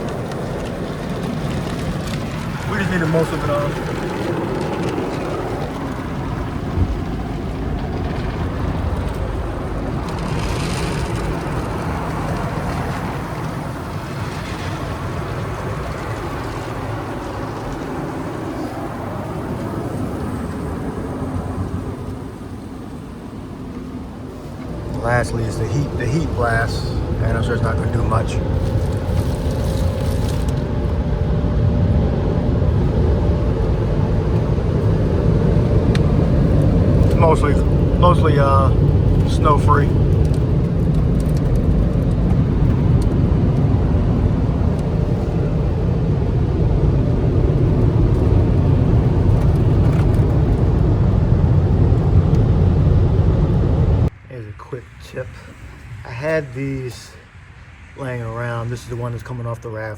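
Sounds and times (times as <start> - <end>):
car engine rumbling: 0.0 - 57.2
blower rushing air: 0.0 - 59.2
faint steady whine: 0.0 - 59.9.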